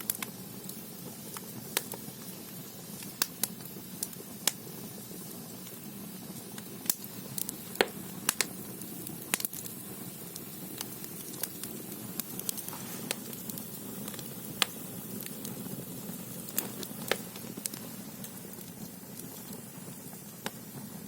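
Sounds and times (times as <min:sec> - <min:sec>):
fire rumbling: 0:00.0 - 0:21.0
firewood crackling and popping: 0:00.0 - 0:21.0.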